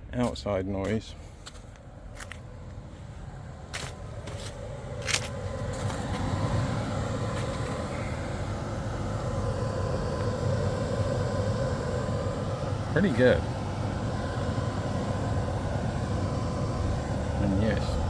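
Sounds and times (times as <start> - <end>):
air conditioner fan rush: 0.0 - 18.0
compressor hum: 0.0 - 18.0.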